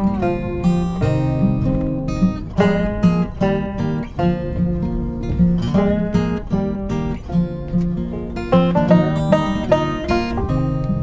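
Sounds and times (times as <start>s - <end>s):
acoustic guitar plucked notes: 0.0s - 11.0s.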